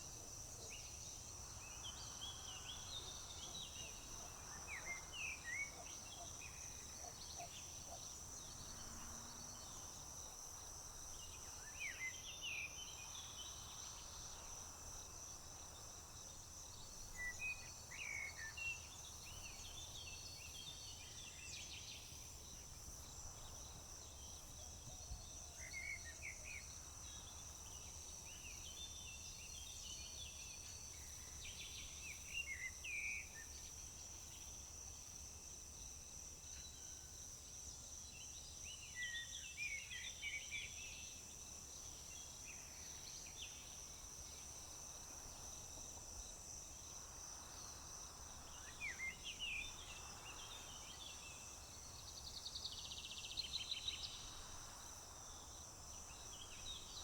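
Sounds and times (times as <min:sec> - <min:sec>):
crickets trilling: 0:08.3 - 0:57.0.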